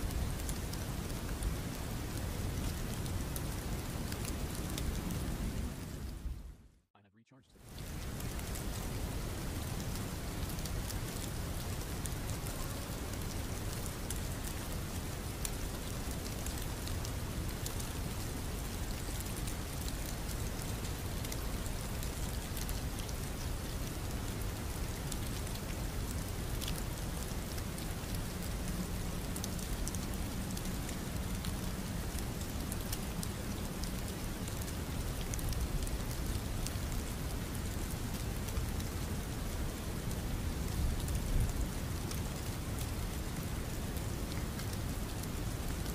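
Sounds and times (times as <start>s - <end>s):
rain drops ticking: 0.0s - 6.6s, 7.6s - 45.9s
steady hiss of rain: 0.0s - 6.8s, 7.5s - 45.9s.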